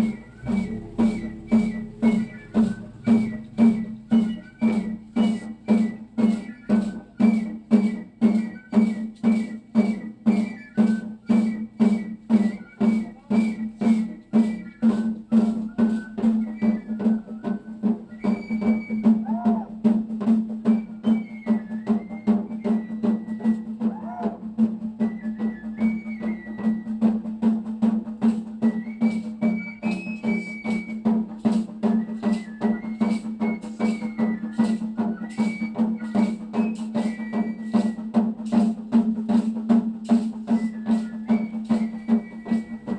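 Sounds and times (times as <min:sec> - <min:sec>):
fast percussion beat: 0:00.0 - 0:42.9.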